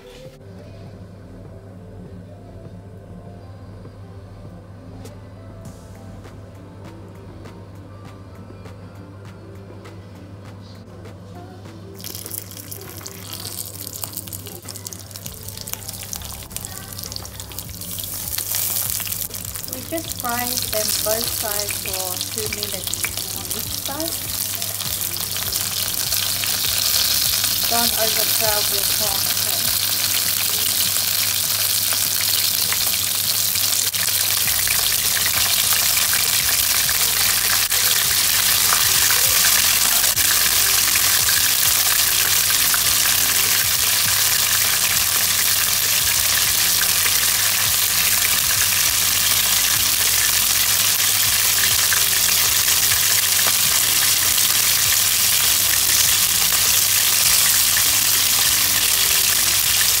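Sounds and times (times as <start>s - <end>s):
prawns sizzling in hot oil: 12.0s - 60.0s.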